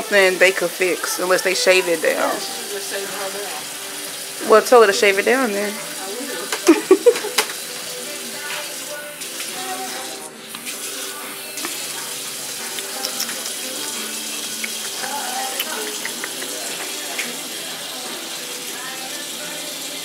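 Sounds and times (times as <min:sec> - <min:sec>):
sink tap running: 0:00.0 - 0:20.0.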